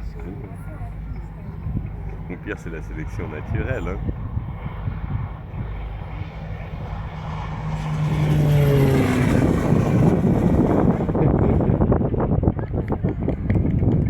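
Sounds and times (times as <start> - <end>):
propeller plane flying past: 0.0 - 14.0.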